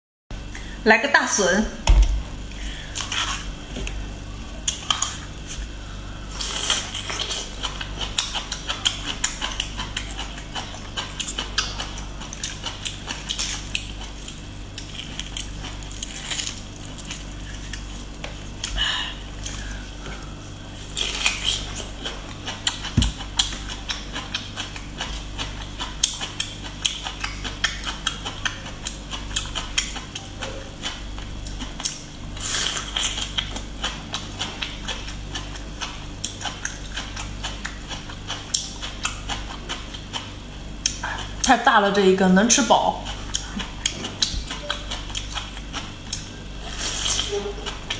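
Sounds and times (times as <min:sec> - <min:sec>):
chewing with wet crackles: 0:06.3 - 0:41.7, 0:42.5 - 0:47.9.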